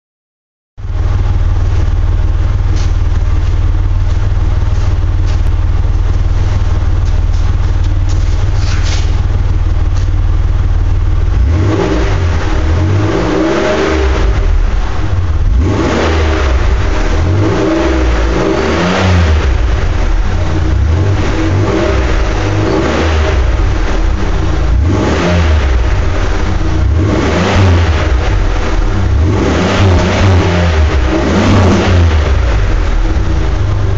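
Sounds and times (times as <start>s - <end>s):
car engine idling and revving: 0.8s - 33.9s.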